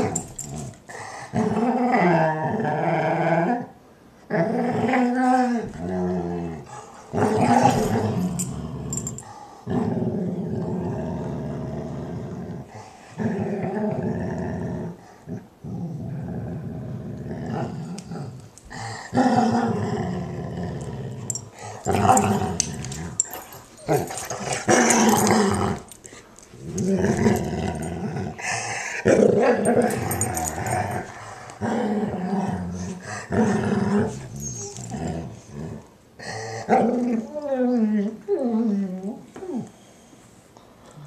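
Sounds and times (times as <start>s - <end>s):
dog growly vocalizations: 4.3s - 39.7s.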